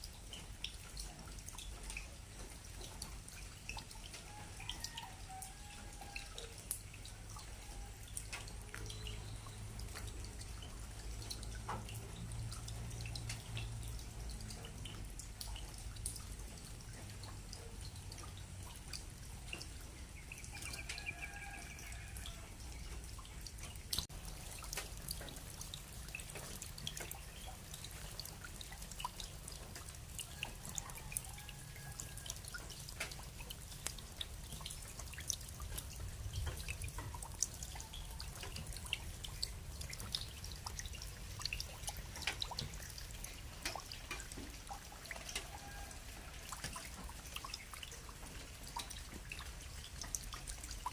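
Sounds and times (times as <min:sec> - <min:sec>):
rain drops tapping: 0:00.0 - 0:50.9.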